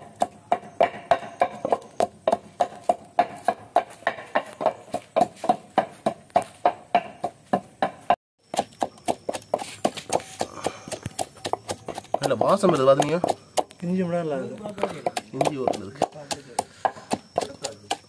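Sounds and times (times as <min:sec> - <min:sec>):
pestle pounding in a mortar: 0:00.0 - 0:13.8, 0:14.8 - 0:18.0.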